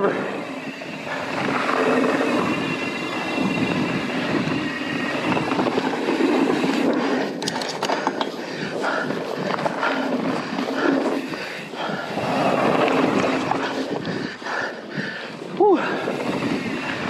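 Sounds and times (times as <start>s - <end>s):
bike rattles and knocks: 0.0s - 14.4s
freehub buzzing: 0.0s - 14.5s, 15.5s - 17.0s
bike tyre rolling on dirt: 0.0s - 17.0s.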